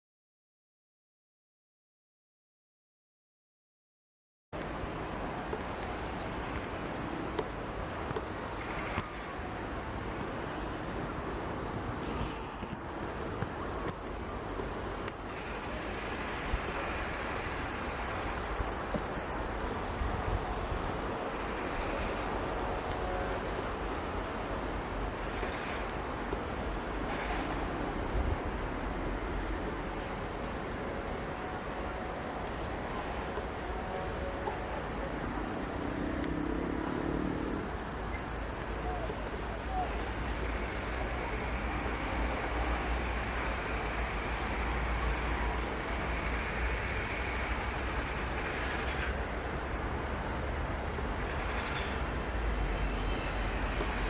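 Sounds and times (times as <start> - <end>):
background hiss: 4.6 - 54.0
higher pulsing insect trill: 4.6 - 54.0
steady high-pitched insect trill: 4.6 - 54.0.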